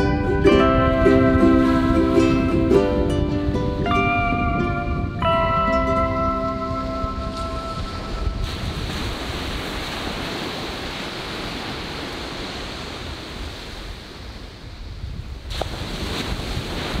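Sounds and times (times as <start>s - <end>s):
ocean waves on a beach: 0.0s - 17.0s.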